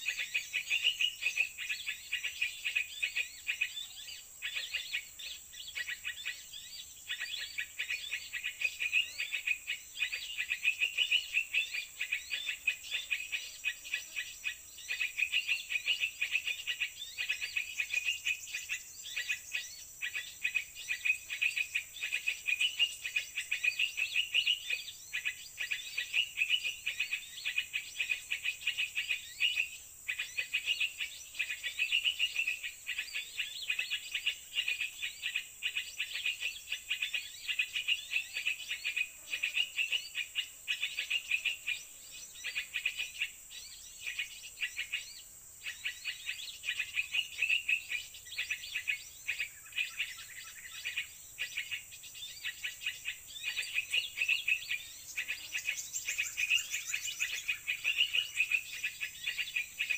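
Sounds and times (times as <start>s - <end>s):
high insect drone: 0.0s - 59.9s
small birds chirping: 0.0s - 59.9s.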